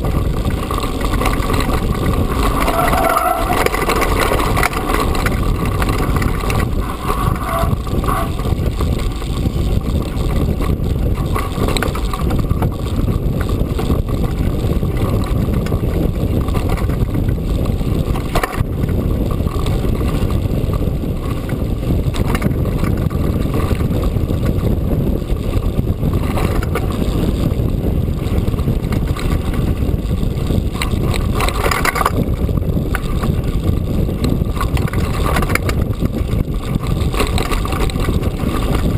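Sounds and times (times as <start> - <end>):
bike knocks and rattles: 0.0 - 38.9
bike tyre noise: 0.0 - 38.9
wind rumble: 0.0 - 38.9.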